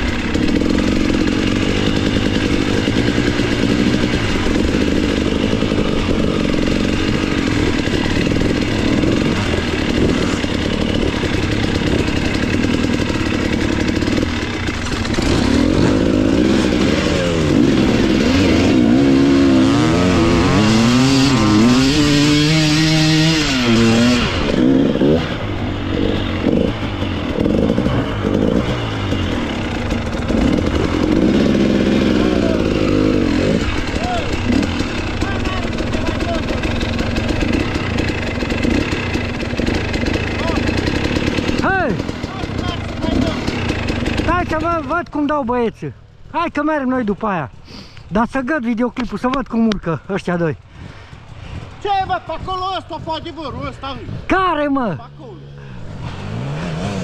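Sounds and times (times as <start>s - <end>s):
motorcycle engine revving: 0.0s - 45.6s, 48.4s - 57.0s.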